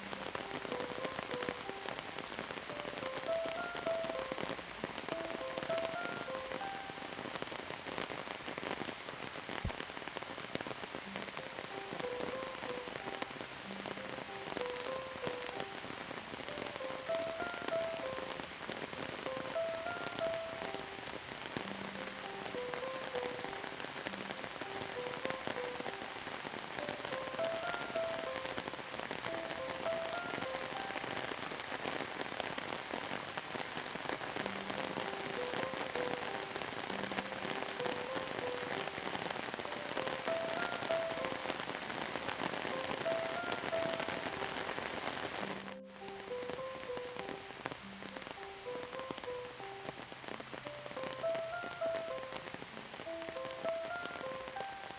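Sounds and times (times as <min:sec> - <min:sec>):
soft slow melody: 0:00.0 - 0:08.8, 0:09.5 - 0:54.9
steady rain: 0:00.0 - 0:54.9.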